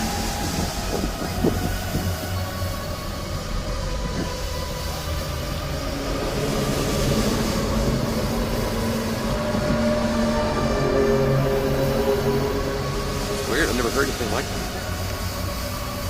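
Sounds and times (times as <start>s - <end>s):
low droning groan: 0.0s - 16.0s.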